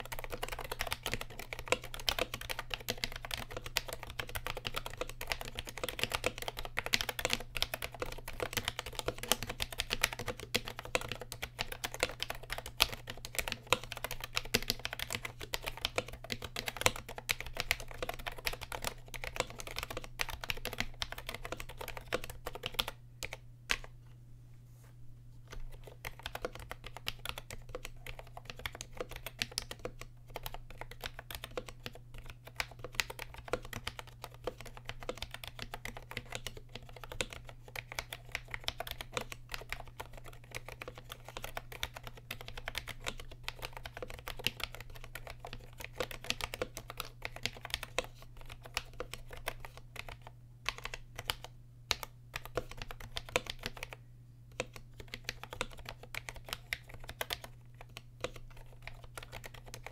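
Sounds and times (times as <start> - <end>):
fast keyboard typing: 0.0 - 23.9, 25.5 - 59.9.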